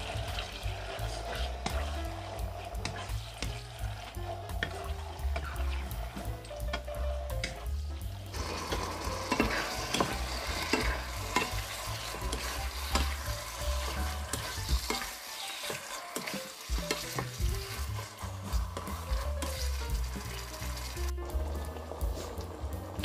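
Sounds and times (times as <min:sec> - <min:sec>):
spatula scraping and knocking pan: 0:00.0 - 0:21.4
chicken sizzling in frying pan: 0:00.0 - 0:23.0.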